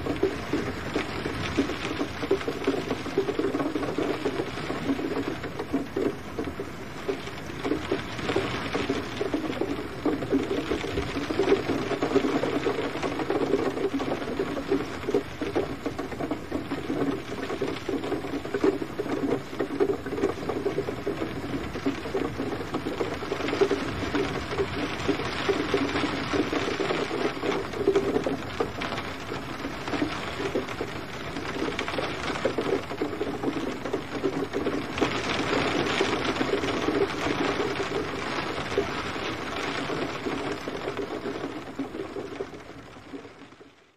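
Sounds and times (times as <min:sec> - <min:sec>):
rain pattering on a surface: 0:00.0 - 0:43.9.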